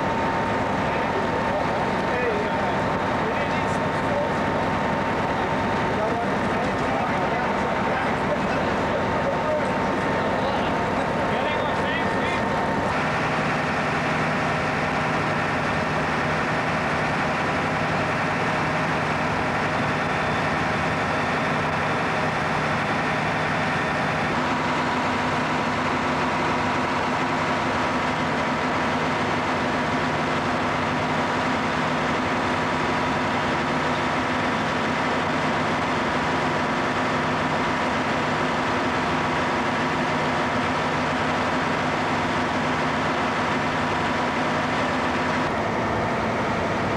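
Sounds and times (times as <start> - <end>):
fire engine idling: 0.0 - 46.9.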